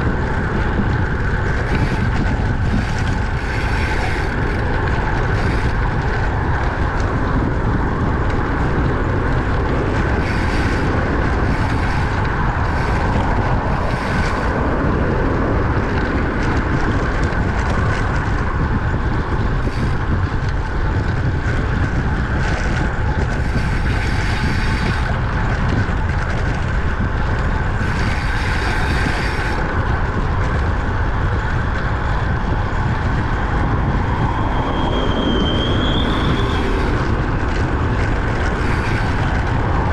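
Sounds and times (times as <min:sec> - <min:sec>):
road and tyre rumble: 0:00.0 - 0:39.9
wind rushing on microphone: 0:00.0 - 0:39.9.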